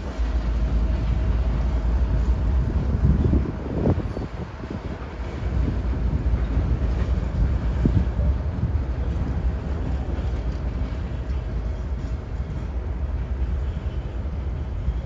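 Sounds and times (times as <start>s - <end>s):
locomotive engine rumble: 0.0s - 15.0s
rolling train wheels: 0.0s - 15.0s.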